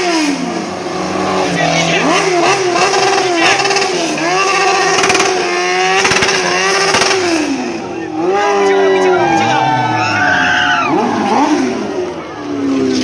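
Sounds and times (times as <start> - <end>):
sports car engine revving: 0.0 - 13.0.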